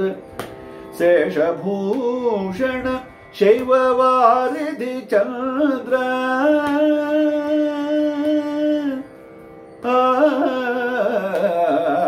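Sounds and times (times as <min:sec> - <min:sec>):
man singing: 0:00.0 - 0:00.3, 0:00.9 - 0:09.1, 0:09.8 - 0:12.0.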